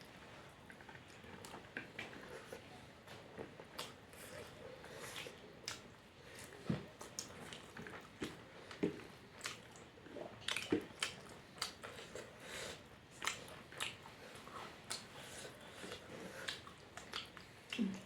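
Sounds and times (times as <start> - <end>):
chewing with wet mouth smacks: 0.7 - 18.0.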